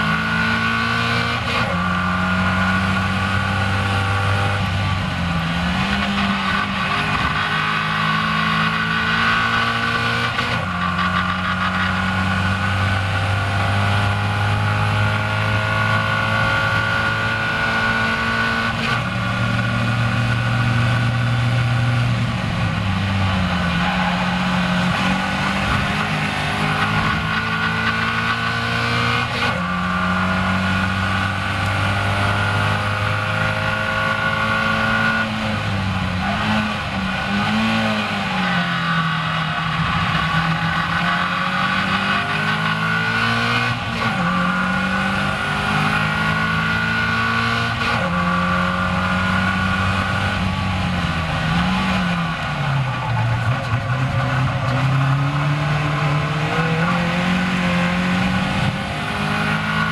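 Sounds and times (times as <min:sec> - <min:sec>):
race car engine: 0:00.0 - 0:59.9
wind and road noise: 0:00.0 - 0:59.9.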